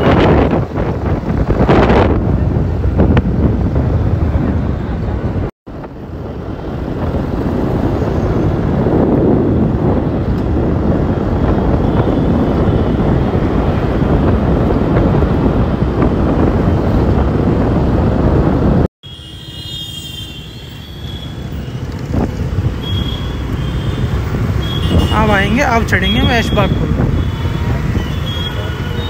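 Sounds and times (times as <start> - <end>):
wind on microphone: 0.0 - 18.9, 21.3 - 29.0
road noise: 0.0 - 29.0
street traffic: 0.0 - 29.0.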